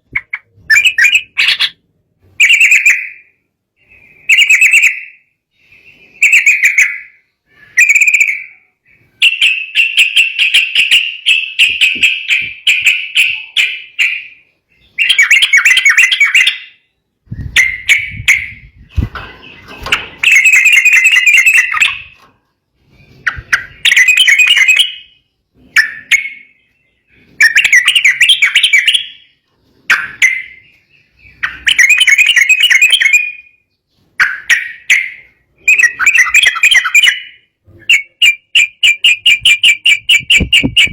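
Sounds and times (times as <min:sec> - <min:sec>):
bird chattering song: 0:00.0 - 0:01.8, 0:02.4 - 0:22.2, 0:22.8 - 0:40.9.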